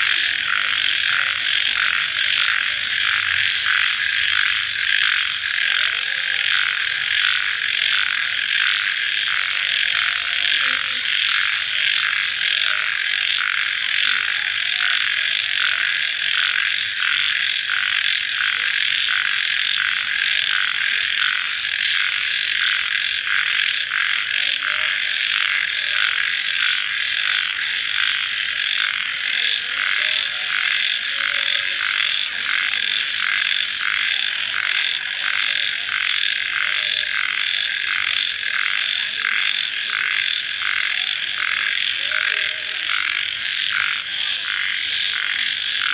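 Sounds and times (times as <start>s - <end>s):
crickets trilling: 0.0s - 45.9s.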